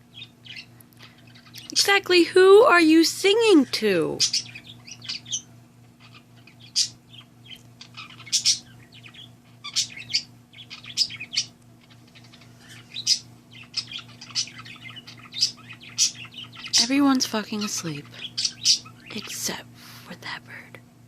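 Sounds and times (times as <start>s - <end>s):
parakeet chirping and warbling: 0.0s - 19.6s.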